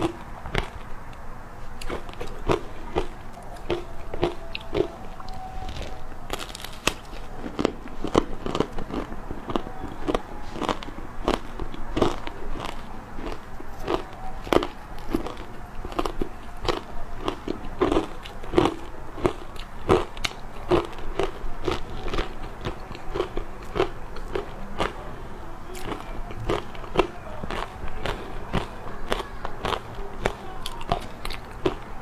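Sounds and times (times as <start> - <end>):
ice crunching while chewed: 0.0 - 1.2, 1.8 - 32.0.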